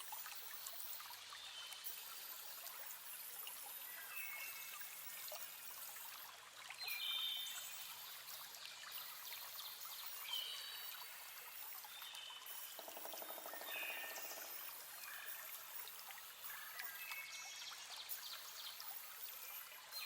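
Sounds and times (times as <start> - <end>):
trickling water: 0.0 - 20.0.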